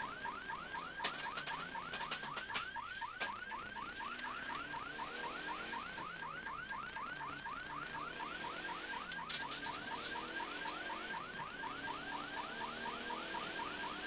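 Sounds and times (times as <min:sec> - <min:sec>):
car engine running: 0:00.0 - 0:14.0
electronic siren yelping: 0:00.0 - 0:14.0.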